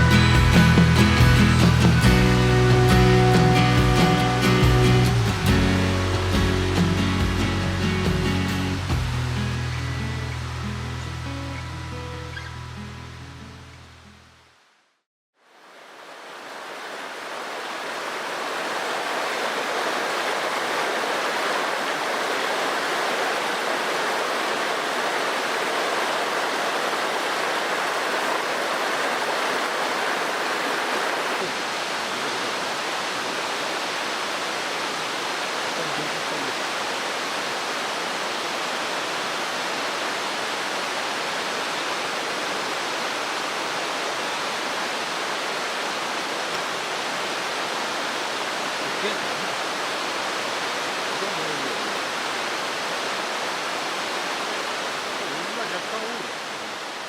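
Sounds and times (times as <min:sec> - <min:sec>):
stream water rushing: 0:00.0 - 0:13.7, 0:15.4 - 0:57.0.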